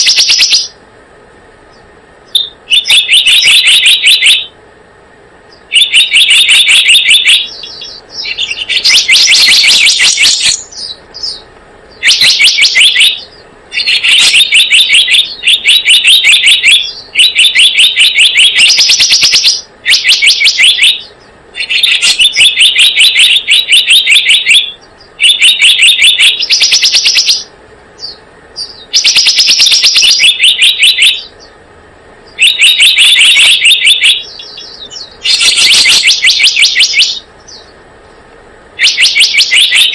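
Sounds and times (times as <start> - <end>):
bird chirping rapidly: 0.0 - 0.8, 1.7 - 4.6, 5.4 - 31.6, 32.2 - 39.9.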